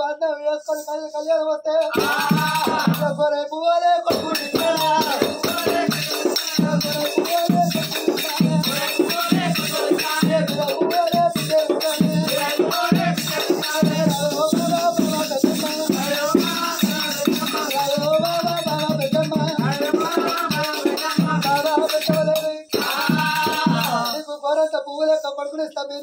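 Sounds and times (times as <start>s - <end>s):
man singing: 0.0s - 26.0s
barrel drum beating fast rhythm: 1.8s - 3.2s, 4.1s - 24.3s
jingling metal percussion: 1.8s - 3.3s, 4.0s - 25.2s.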